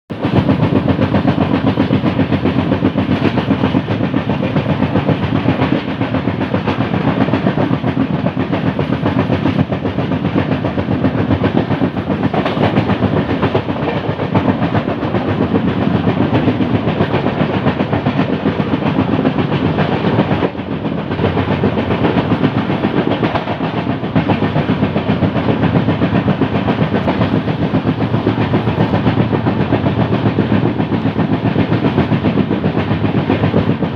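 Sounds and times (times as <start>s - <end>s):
train wheels clattering on rails: 0.1s - 33.9s.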